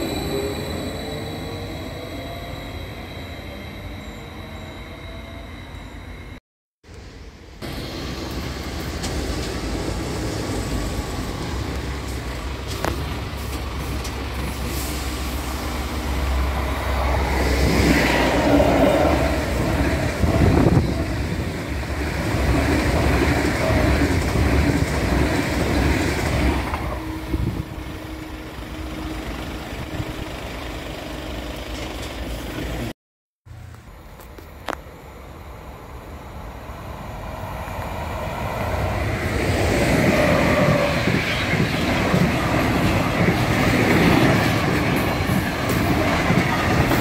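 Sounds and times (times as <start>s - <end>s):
train passing rumble: 0.0s - 32.9s, 33.5s - 47.0s.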